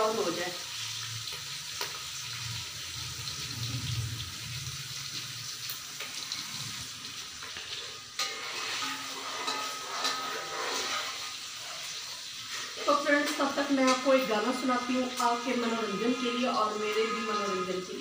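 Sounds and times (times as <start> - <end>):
onions sizzling in a pot: 0.0 - 18.0.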